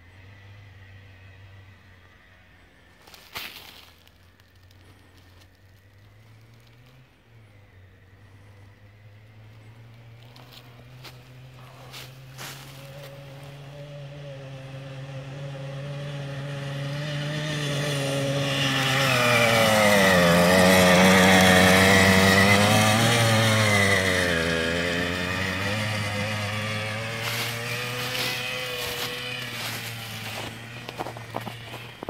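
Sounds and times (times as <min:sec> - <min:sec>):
small engine driving past: 0:00.0 - 0:32.0.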